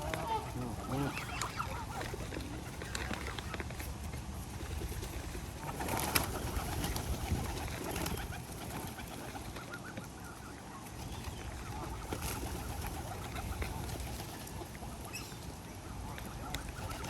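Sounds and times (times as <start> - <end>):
outdoor ambience: 0.0 - 17.0
pigeons cooing: 0.0 - 17.0.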